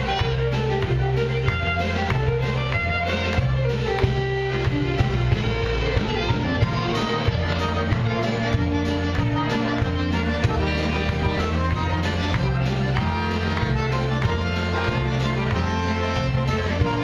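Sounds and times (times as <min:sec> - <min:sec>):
bass line: 0:00.0 - 0:17.0
drum kit steady beat: 0:00.0 - 0:17.0
fiddle: 0:00.0 - 0:17.0
guitar: 0:00.0 - 0:17.0.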